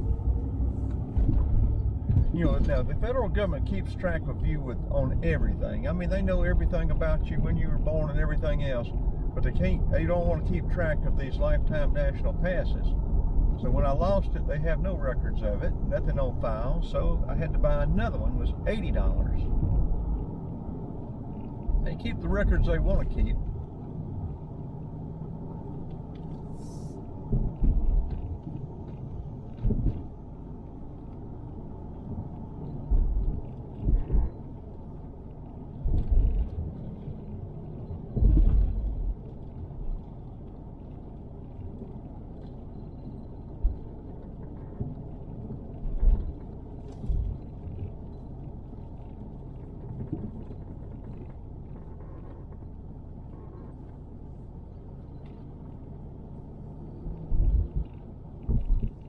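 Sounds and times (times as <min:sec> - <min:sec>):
road and engine rumble in car: 0:00.0 - 0:59.0.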